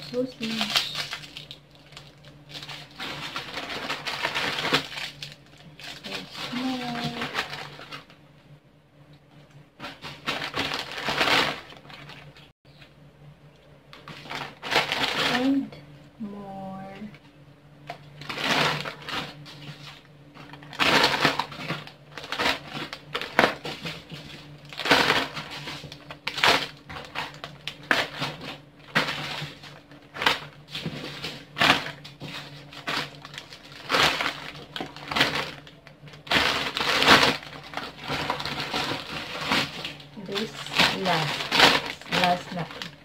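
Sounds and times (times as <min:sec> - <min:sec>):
plastic bags rustling: 0:00.0 - 0:08.2, 0:09.8 - 0:12.5, 0:13.9 - 0:15.8, 0:17.8 - 0:43.0.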